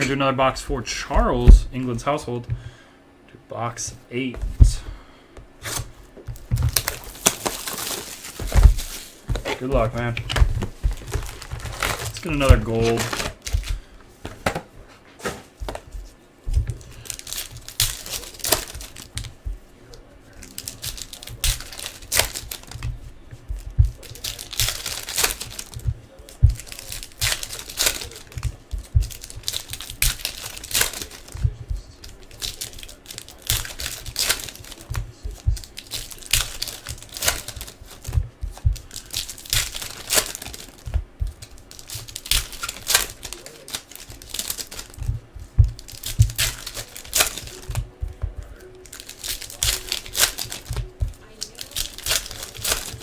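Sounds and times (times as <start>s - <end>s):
plastic wrappers crinkling and tearing: 0.0s - 2.8s, 3.8s - 5.0s, 5.6s - 53.0s.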